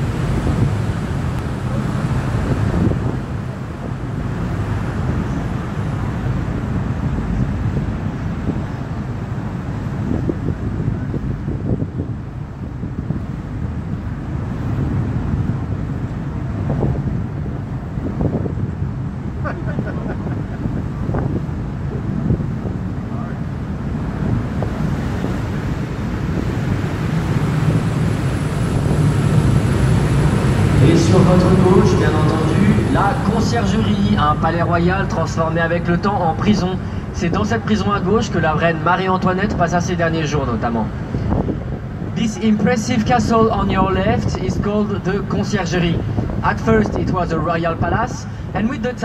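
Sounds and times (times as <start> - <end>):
boat engine rumble: 0.0 - 49.0
passing water: 0.0 - 49.0
wind buffeting microphone: 0.0 - 49.0.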